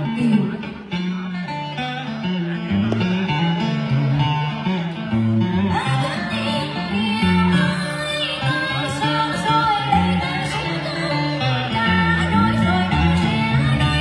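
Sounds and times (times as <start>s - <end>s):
guitar sliding melody: 0.0s - 14.0s.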